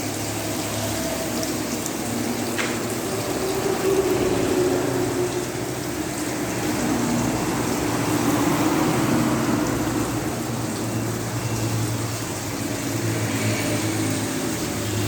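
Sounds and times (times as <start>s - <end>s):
water splashing in fountain: 0.0s - 15.0s.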